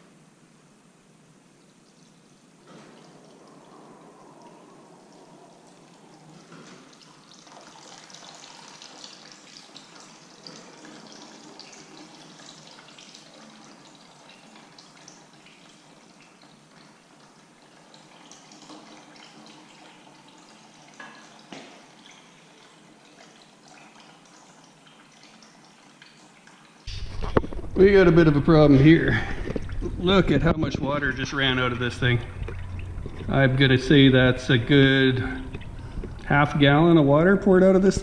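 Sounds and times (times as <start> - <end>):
water trickling and splashing: 1.6 - 38.0.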